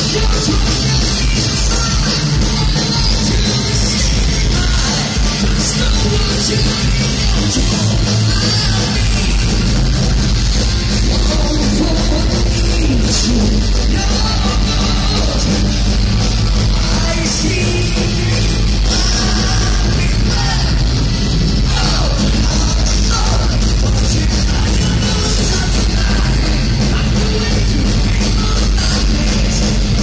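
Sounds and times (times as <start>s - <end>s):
heavy metal band playing live: 0.0s - 30.0s
lead singer singing: 0.0s - 30.0s.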